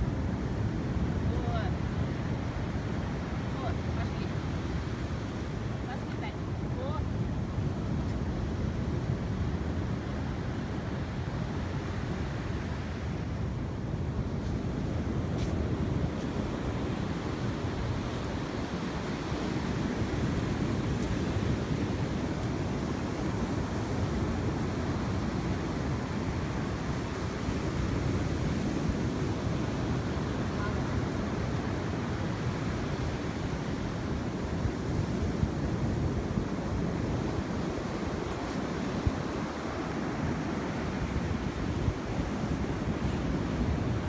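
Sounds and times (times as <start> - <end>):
sea surf washing on shore: 0.0 - 44.0
wind buffeting microphone: 0.0 - 44.0.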